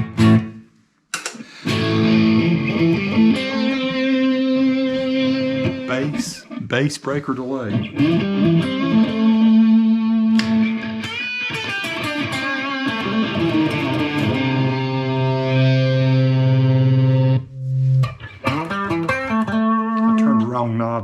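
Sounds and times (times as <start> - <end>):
electric guitar with delay: 0.0 - 0.6, 1.6 - 6.7, 7.5 - 20.8.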